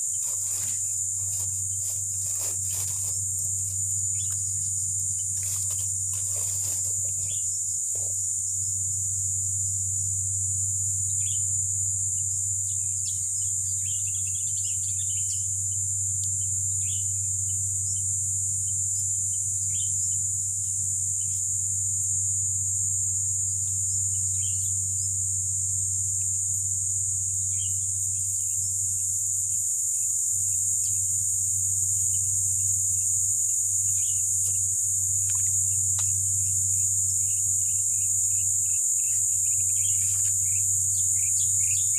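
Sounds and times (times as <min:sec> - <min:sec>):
insects droning: 0:00.0 - 0:41.9
low steady hum: 0:00.0 - 0:41.9.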